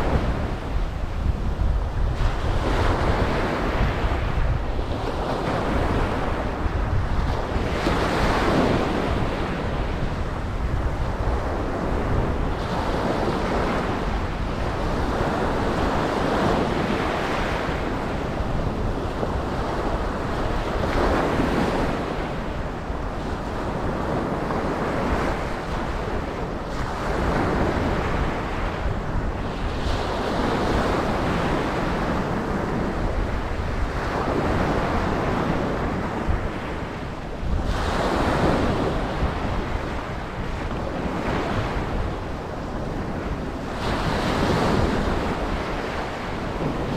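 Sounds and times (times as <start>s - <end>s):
ocean waves breaking on beach: 0.0s - 46.9s
wind noise on microphone: 0.0s - 46.9s.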